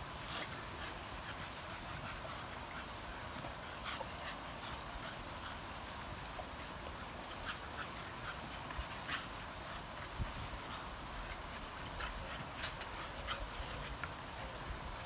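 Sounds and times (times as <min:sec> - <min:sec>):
outdoor background hiss: 0:00.0 - 0:15.0
faint dog sounds: 0:00.1 - 0:15.0.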